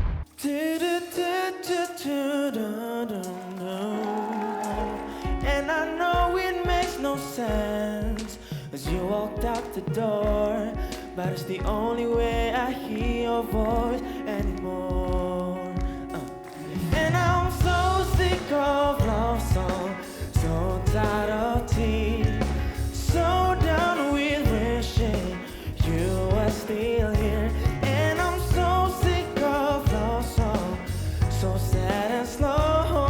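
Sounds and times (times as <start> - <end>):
band playing pop song: 0.2 - 33.0
person singing with vibrato: 0.4 - 33.0.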